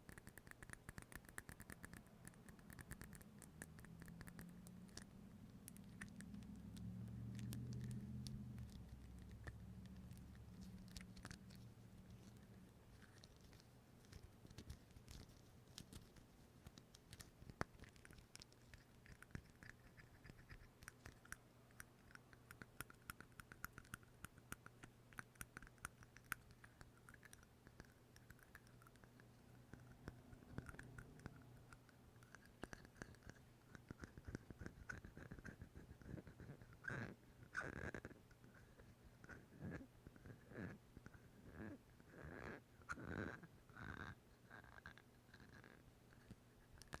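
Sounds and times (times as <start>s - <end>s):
scratching and clicking: 0.0s - 41.2s, 42.9s - 47.0s
low steady hum: 0.0s - 47.0s.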